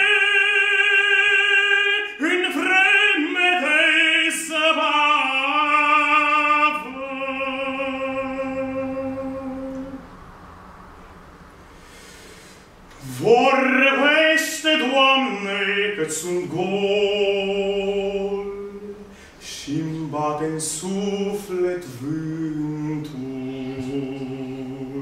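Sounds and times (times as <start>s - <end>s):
man singing operatic hymn: 0.0s - 10.0s, 13.0s - 25.0s.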